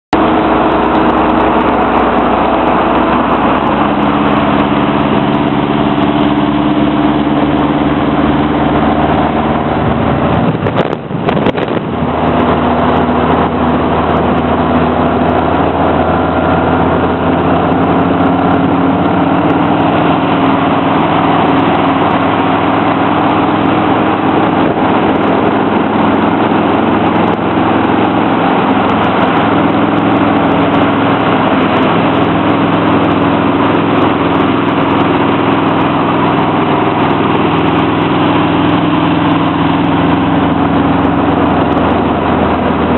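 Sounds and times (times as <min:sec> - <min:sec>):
car engine cruising: 0:00.1 - 0:42.9
road and wind noise: 0:00.1 - 0:42.9.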